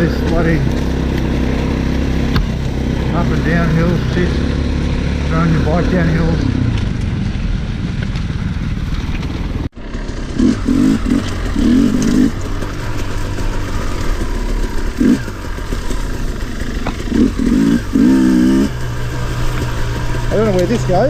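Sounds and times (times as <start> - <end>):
engine throttle blips: 0.0 - 21.0
two-stroke motorbike engine running: 0.0 - 21.0.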